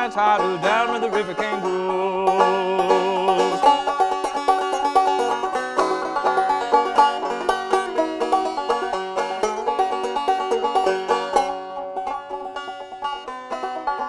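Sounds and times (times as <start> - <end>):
banjo picking: 0.0 - 14.0.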